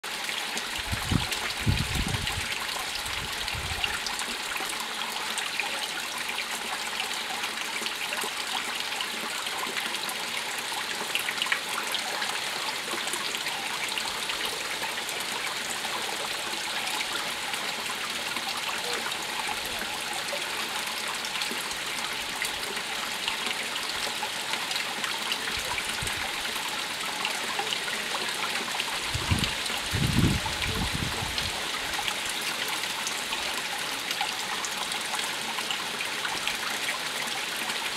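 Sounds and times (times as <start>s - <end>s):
running water rushing: 0.0s - 37.9s.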